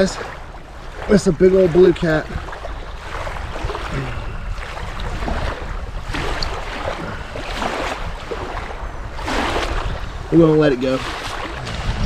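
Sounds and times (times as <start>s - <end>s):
water lapping: 0.0s - 12.0s
wind buffeting microphone: 0.0s - 12.0s.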